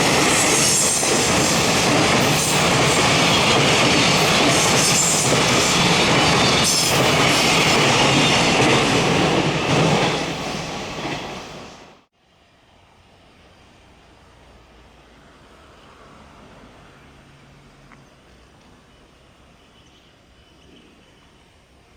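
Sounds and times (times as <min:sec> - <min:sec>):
train wheels on rails: 0:00.0 - 0:19.2.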